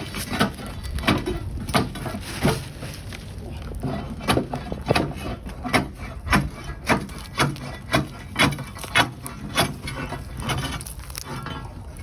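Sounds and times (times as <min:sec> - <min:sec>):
hand saw cutting tree root: 0:00.0 - 0:12.0.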